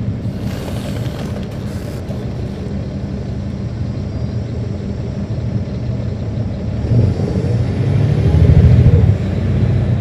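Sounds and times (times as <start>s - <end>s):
bus engine humming: 0.0s - 10.0s
road noise hiss: 0.0s - 10.0s.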